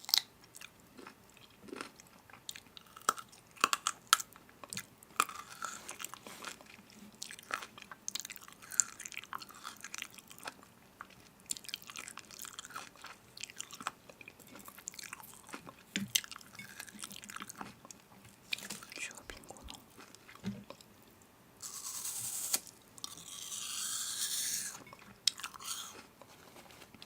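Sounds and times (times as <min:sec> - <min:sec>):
chewing crunchy food: 0:00.0 - 0:21.0, 0:23.0 - 0:26.8.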